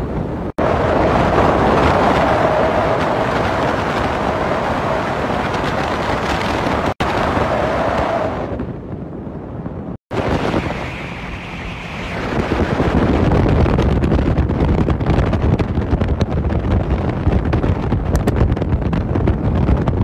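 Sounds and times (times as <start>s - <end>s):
speedboat rushing through water: 0.0s - 20.0s
wind buffeting microphone: 0.0s - 20.0s.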